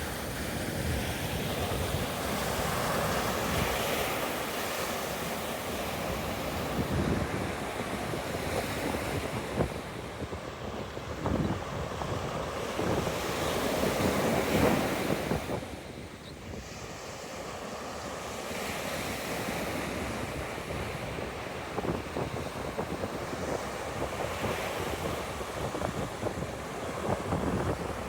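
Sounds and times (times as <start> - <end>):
wind buffeting microphone: 0.0 - 16.8, 19.4 - 28.0
ocean surf breaking on beach: 0.0 - 28.0.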